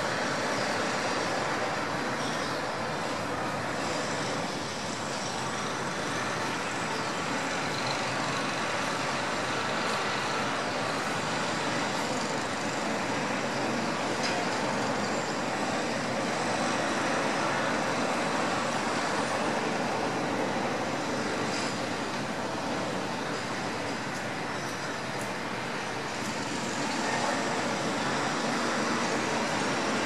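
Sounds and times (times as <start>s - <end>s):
city road traffic roar: 0.0s - 30.0s.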